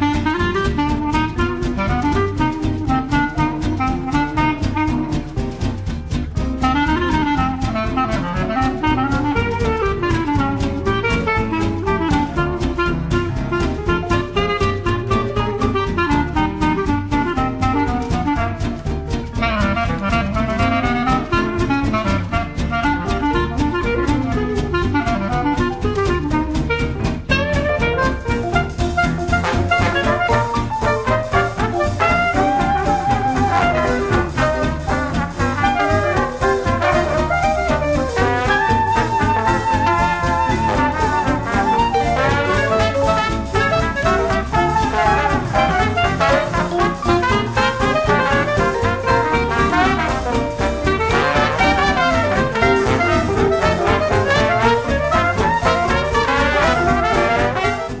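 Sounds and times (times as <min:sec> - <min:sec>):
upbeat jazz with brass melody: 0:00.0 - 0:58.0.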